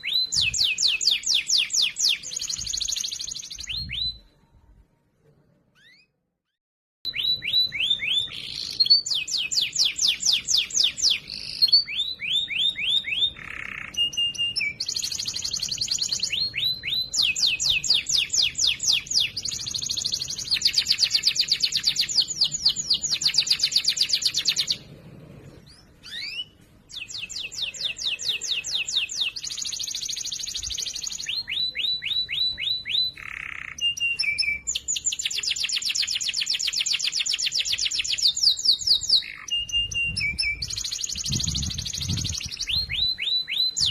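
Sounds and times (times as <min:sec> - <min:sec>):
canary singing trills: 0:00.0 - 0:04.4, 0:07.1 - 0:43.9.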